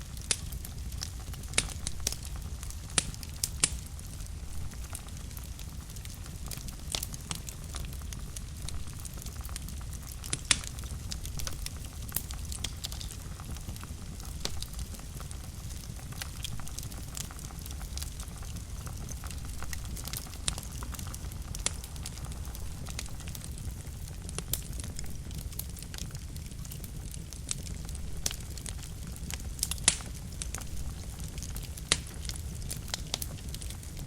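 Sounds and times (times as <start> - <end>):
fire crackles and pops: 0.0 - 34.0
fire rumbling in fireplace: 0.0 - 34.0.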